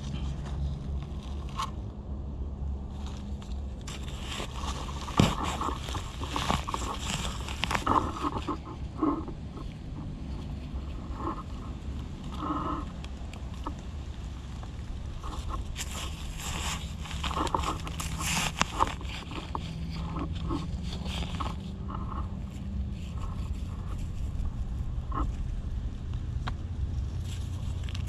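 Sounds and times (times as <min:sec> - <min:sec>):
dry leaves and twigs rustling: 0:00.0 - 0:28.0
steady low rumble: 0:00.0 - 0:28.0.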